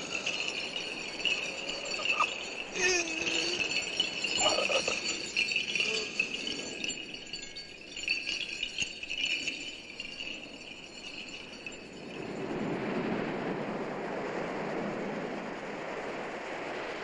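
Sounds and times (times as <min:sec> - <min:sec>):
rattle jingling shimmer: 0:00.0 - 0:14.0.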